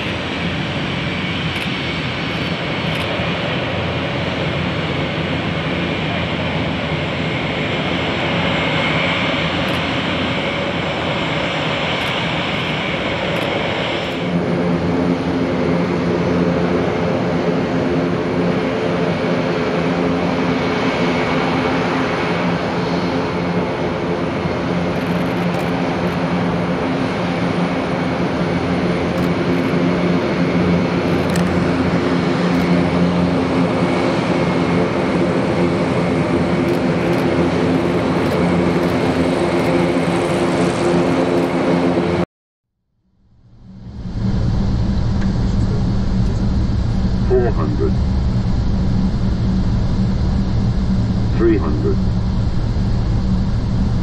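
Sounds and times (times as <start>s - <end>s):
turboprop engines droning: 0.0s - 42.3s, 42.9s - 54.0s.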